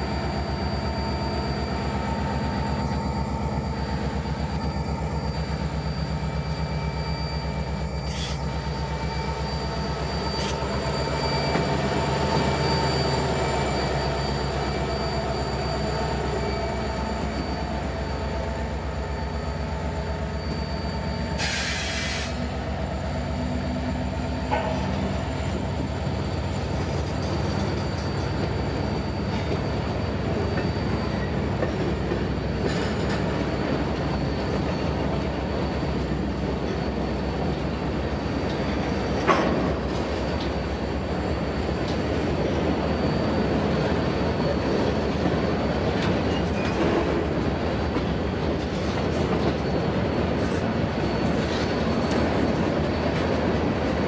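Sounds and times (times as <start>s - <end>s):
freight train rumbling past: 0.0s - 54.0s
steel wheel squeal: 0.0s - 54.0s.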